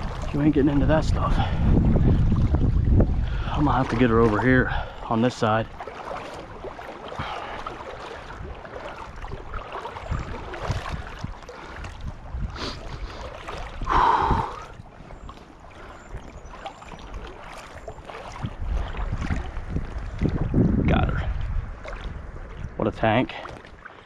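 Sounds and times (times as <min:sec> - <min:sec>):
water splashing and sloshing: 0:00.0 - 0:24.0.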